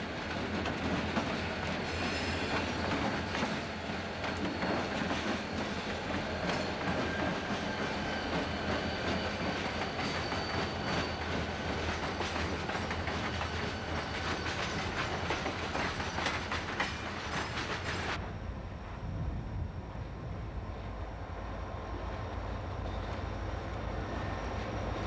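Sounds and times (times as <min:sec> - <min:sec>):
diesel locomotive engines rumbling: 0:00.0 - 0:25.0.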